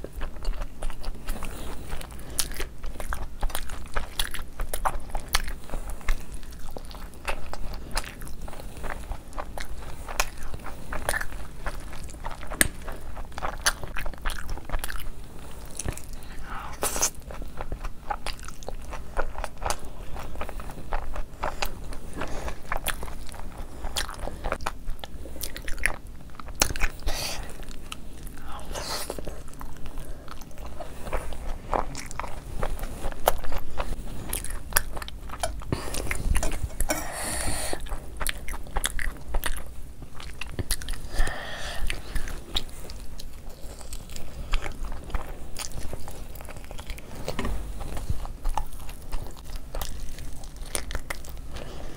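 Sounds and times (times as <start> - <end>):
crunching and chewing food: 0.0 - 51.9.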